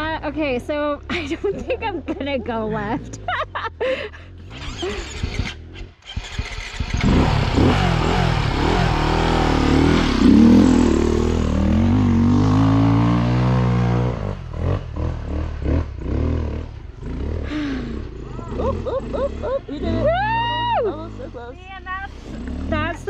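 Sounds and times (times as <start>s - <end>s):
dirt bike engine revving: 4.4s - 23.0s.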